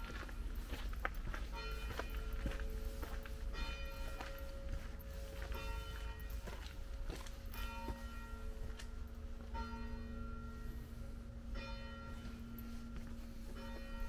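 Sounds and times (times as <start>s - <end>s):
footsteps on stone paving: 0.0s - 10.4s, 11.6s - 14.0s
church bell tolling: 0.0s - 14.0s.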